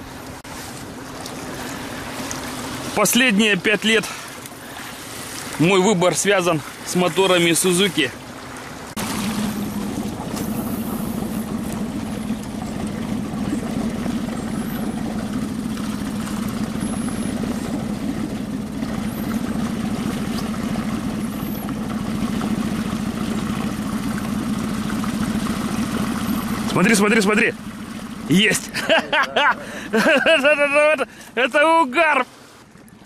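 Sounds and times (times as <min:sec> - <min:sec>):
outboard motor running: 0:00.0 - 0:33.0.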